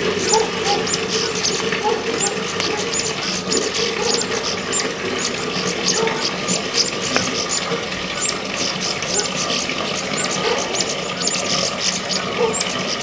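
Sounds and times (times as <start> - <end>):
steady background hum: 0.0 - 13.0
high thin bird chirps: 0.1 - 13.0.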